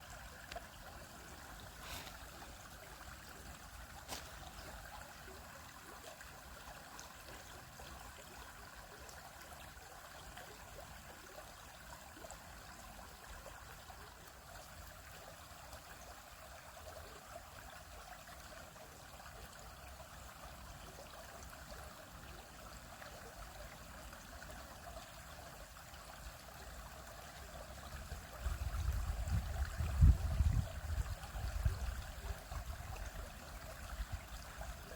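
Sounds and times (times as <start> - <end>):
stream trickling over rocks: 0.0 - 34.9.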